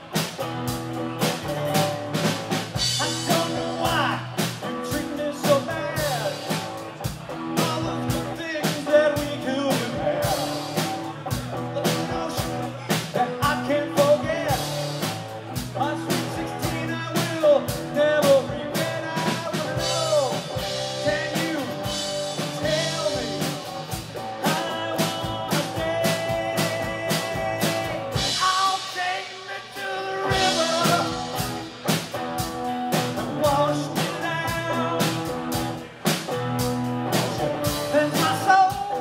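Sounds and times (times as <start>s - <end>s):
acoustic guitar: 0.0s - 39.0s
drum kit beat: 0.0s - 39.0s.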